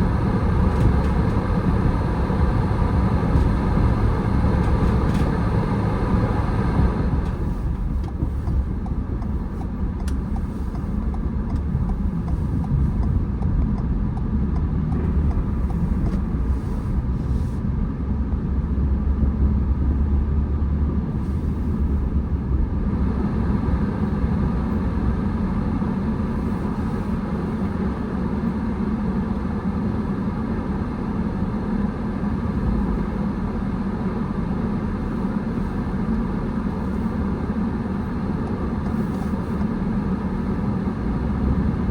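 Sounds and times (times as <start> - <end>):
car engine and tyre rumble: 0.0 - 41.9.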